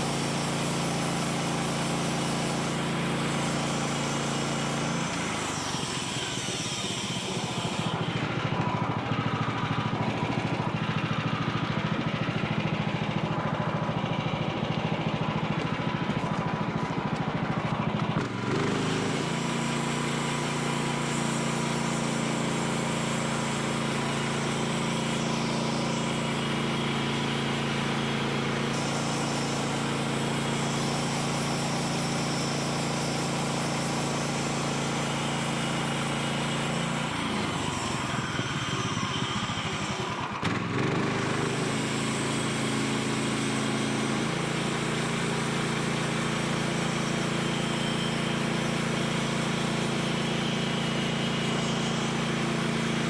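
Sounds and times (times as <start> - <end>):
small gasoline engine running: 0.0 - 53.0.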